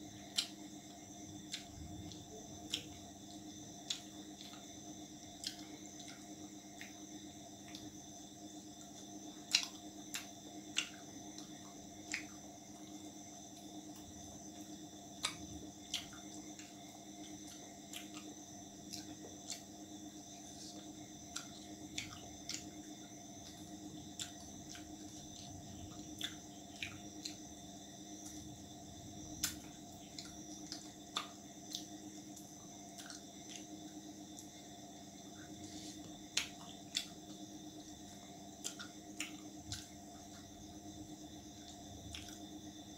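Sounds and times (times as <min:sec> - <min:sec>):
background hum: 0:00.0 - 0:42.9
person chewing food: 0:00.0 - 0:42.9.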